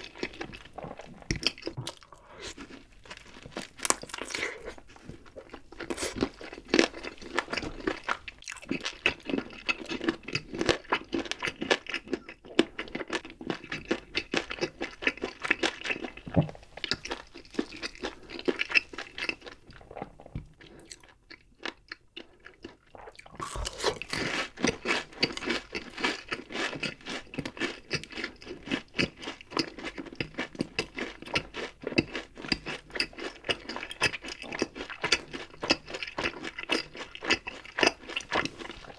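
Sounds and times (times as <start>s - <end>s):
crunchy food chewing: 0.0s - 38.9s.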